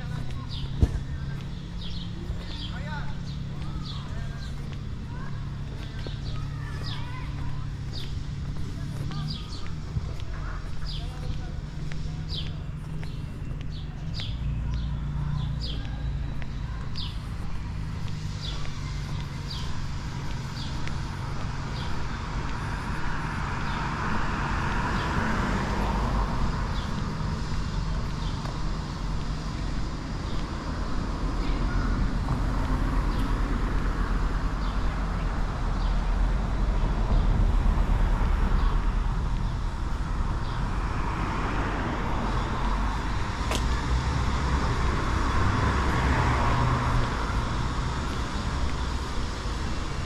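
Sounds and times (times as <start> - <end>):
city traffic rumble: 0.0 - 50.0.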